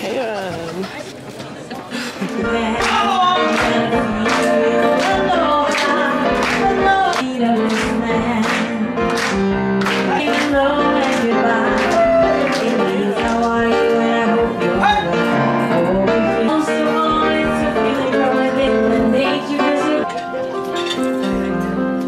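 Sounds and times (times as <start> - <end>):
live band music with singing: 2.1 - 22.0.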